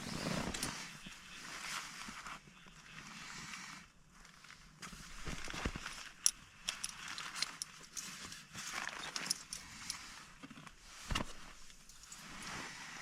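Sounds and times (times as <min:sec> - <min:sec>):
rustling and handling noises: 0:00.0 - 0:13.0.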